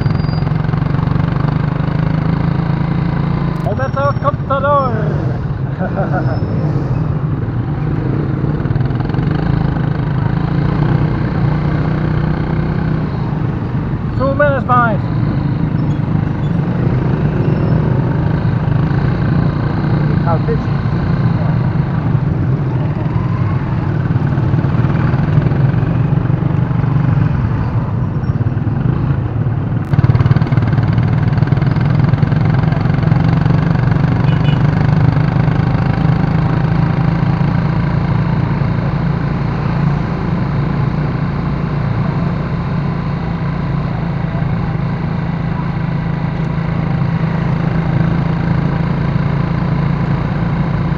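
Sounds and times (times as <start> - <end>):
motorcycles and cars passing: 0.0 - 50.9.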